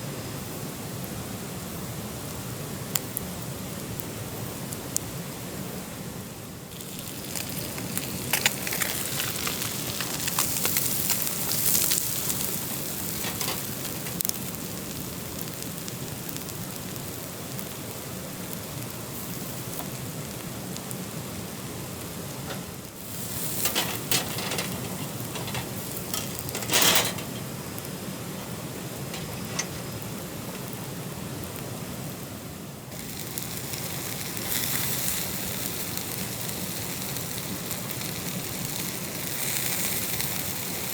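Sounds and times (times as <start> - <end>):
food sizzling over campfire: 0.0 - 40.9.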